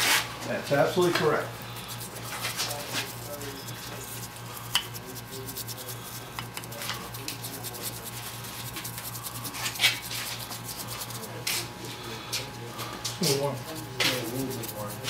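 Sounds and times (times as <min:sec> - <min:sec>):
paintbrush scrubbing on plaster: 0:00.9 - 0:11.7, 0:13.2 - 0:15.0.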